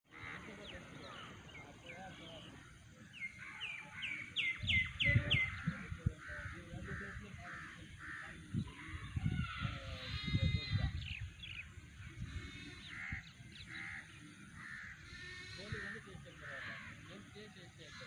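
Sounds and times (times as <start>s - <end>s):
birds chirping: 0.1s - 18.0s
short harsh bird calls: 2.3s - 18.0s.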